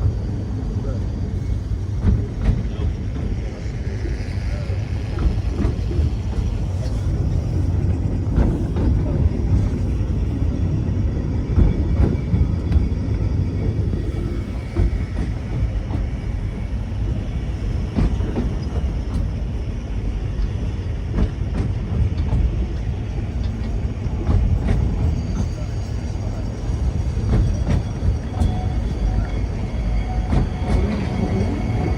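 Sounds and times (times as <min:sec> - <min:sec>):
tramcar rumbling on track: 0:00.0 - 0:31.9.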